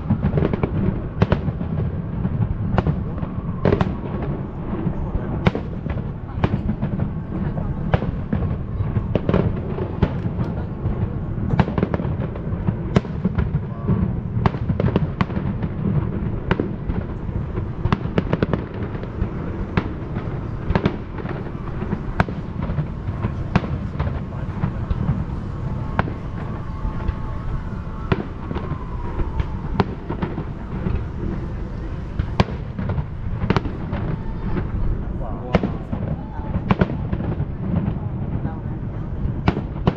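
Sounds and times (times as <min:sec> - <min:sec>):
fireworks bangs and crackles: 0:00.0 - 0:39.9
low rumble: 0:00.0 - 0:39.9.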